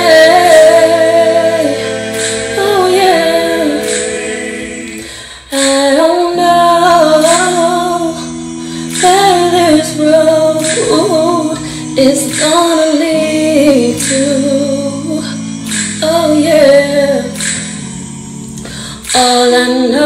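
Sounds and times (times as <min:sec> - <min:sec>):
steady lower harmony: 0:00.0 - 0:18.6
slow sung ballad: 0:00.0 - 0:20.0.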